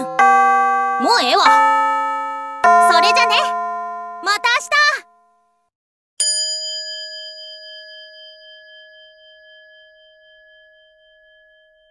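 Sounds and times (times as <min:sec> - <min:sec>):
bell ringing: 0:00.0 - 0:05.2, 0:06.2 - 0:11.8.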